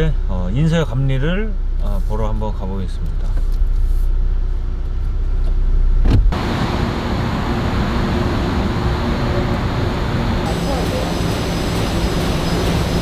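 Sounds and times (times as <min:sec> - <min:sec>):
low rumble inside car: 0:00.0 - 0:12.4
outdoor background hum: 0:00.0 - 0:13.0.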